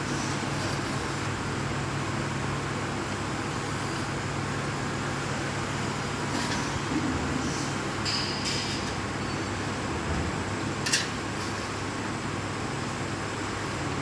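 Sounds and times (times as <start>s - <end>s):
bending machine humming: 0.0s - 14.0s.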